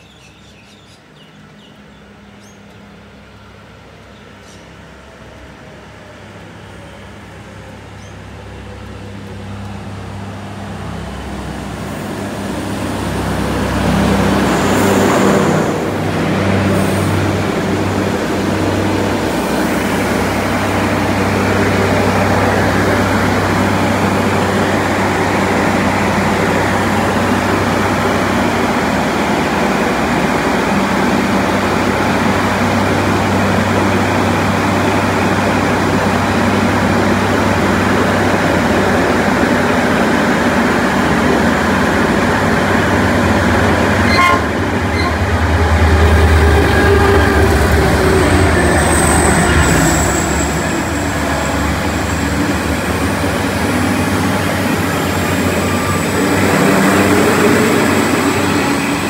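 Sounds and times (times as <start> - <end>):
diesel railcar passing: 0.0 - 59.0.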